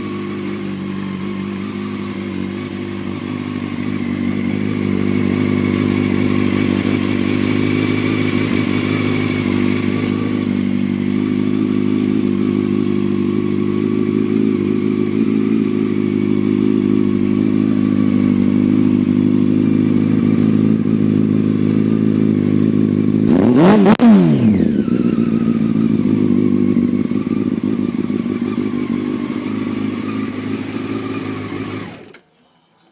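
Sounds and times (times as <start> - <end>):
motorcycle engine idling: 0.0 - 32.5.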